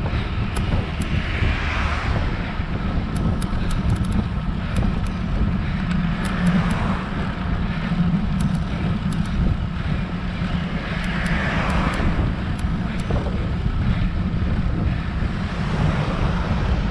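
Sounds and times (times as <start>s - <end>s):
low hum of motor traffic: 0.0s - 16.9s
wind and road noise from bike: 0.0s - 16.9s.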